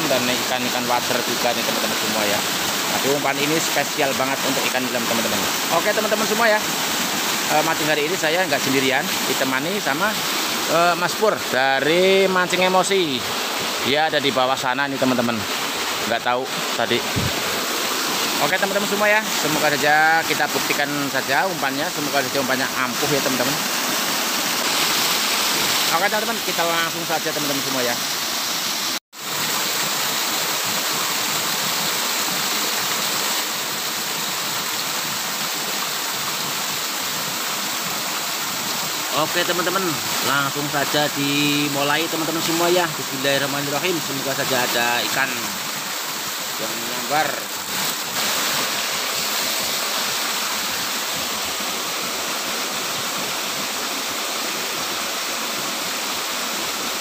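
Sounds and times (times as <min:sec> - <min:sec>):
water pouring down a cascade: 0:00.0 - 0:57.0.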